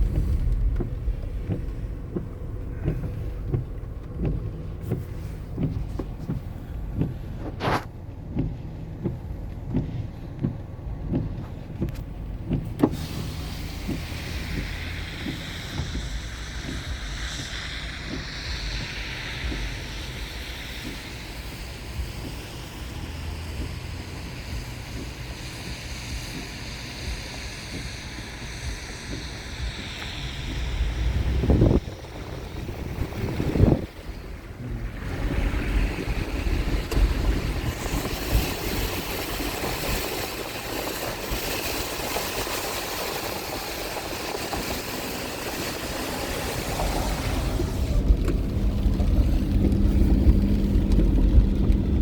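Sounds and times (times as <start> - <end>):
wind buffeting microphone: 0.0 - 7.8, 11.8 - 52.0
low rumble: 0.0 - 52.0
tyres hissing on wet road: 0.0 - 52.0.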